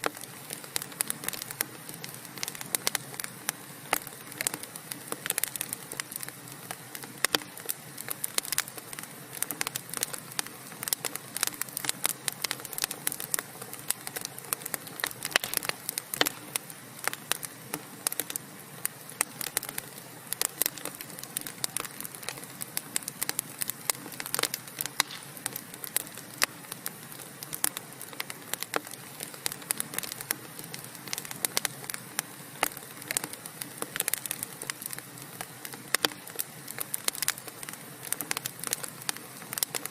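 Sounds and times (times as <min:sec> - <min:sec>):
wood fire crackling and hissing: 0:00.0 - 0:39.9.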